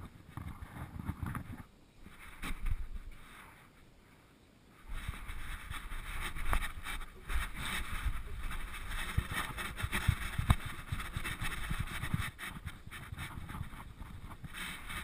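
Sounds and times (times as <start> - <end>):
camera rubbing on harness and fur: 0.0 - 4.2, 4.8 - 15.0.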